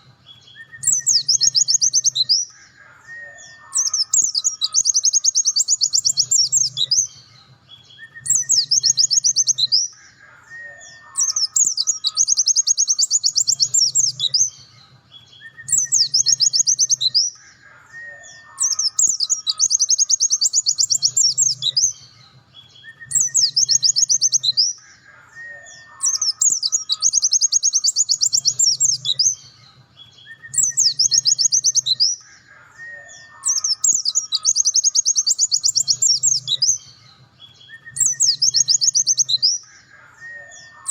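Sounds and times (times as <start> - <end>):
lower whistled bird notes: 0.0 - 7.1, 7.8 - 14.6, 15.3 - 22.0, 22.8 - 29.4, 30.1 - 36.8, 37.6 - 40.9
bird high chattering song: 0.0 - 40.9.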